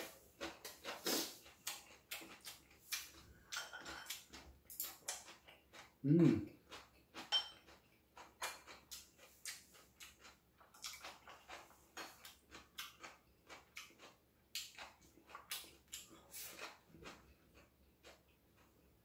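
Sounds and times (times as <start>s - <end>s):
chewing and mouth sounds: 0.0s - 19.0s.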